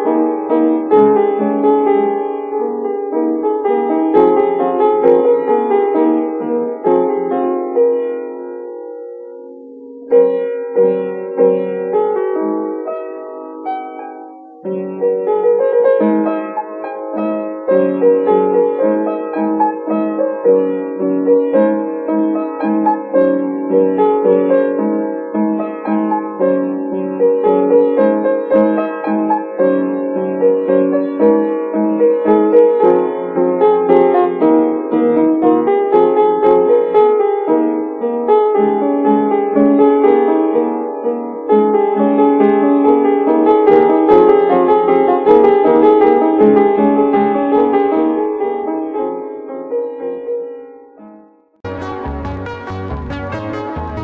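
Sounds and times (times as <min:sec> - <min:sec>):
piano repeated notes: 0:00.0 - 0:46.5, 0:47.6 - 0:54.0.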